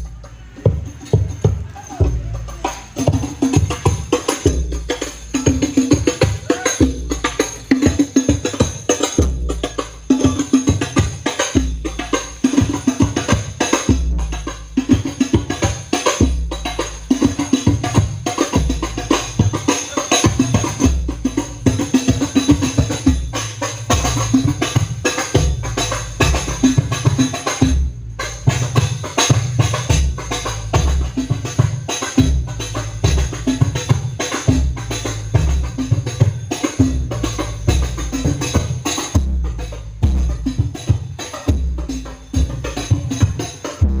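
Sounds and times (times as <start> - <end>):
tambourine: 0.0 - 43.9
heavy bass drum beats: 0.0 - 44.0
loud percussive music: 0.0 - 44.0.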